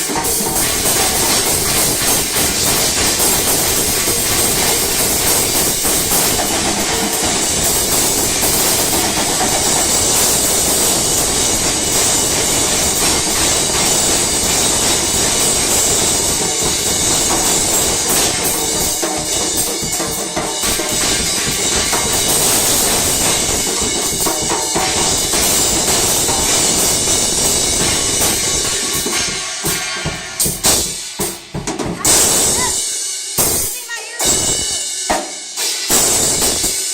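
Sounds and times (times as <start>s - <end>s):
loud dense music with drumming: 0.0s - 36.9s.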